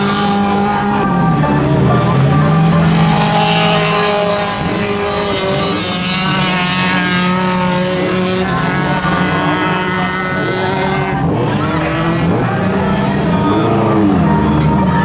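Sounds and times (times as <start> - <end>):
race car engines running hard: 0.0 - 15.0.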